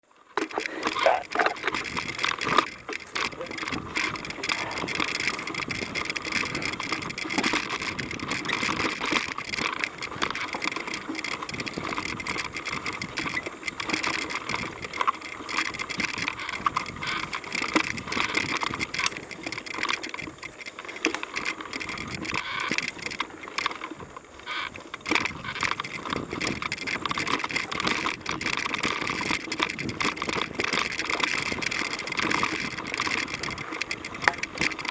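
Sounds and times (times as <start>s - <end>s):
bike chain and frame rattling: 0.0s - 34.9s
bike tyres on dirt: 0.0s - 34.9s.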